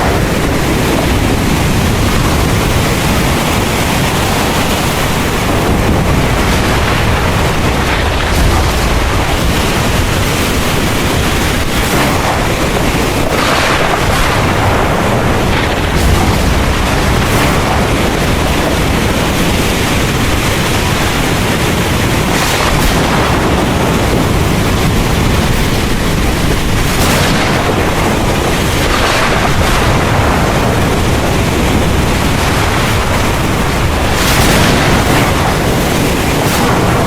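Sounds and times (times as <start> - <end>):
heavy rain pouring: 0.0 - 37.0
thunder rumbling: 0.0 - 37.0.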